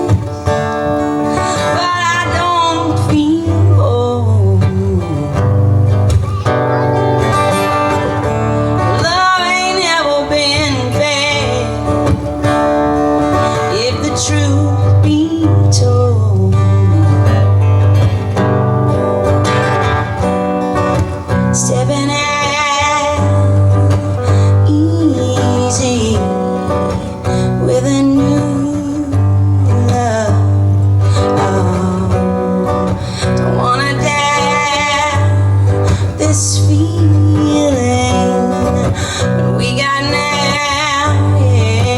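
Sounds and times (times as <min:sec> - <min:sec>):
bass: 0:00.0 - 0:41.9
strummed acoustic guitar: 0:00.0 - 0:41.9.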